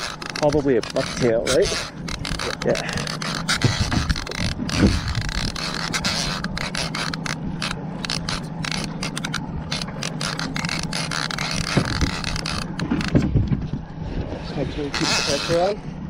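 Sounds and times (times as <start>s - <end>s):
fishing reel scraping whir: 0.0s - 13.2s, 14.4s - 15.8s.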